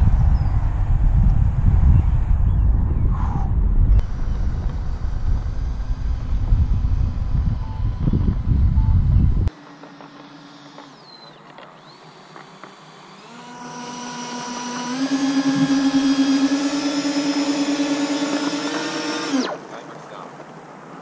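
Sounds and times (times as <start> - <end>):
electric ducted fans whining: 0.0 - 21.0.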